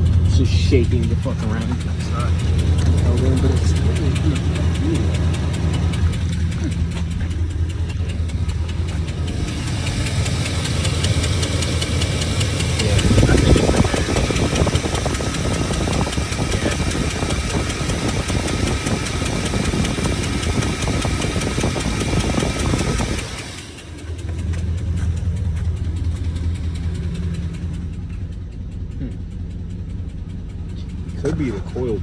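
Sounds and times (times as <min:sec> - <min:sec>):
car engine idling with exhaust leak: 0:00.0 - 0:32.0.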